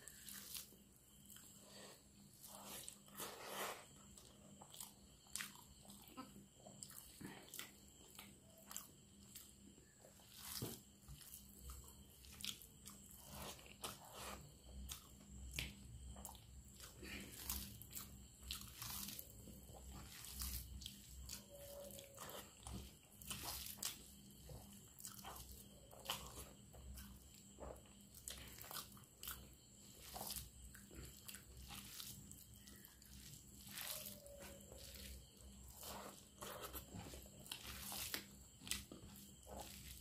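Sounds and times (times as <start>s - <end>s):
person chewing and smacking: 4.0s - 40.0s.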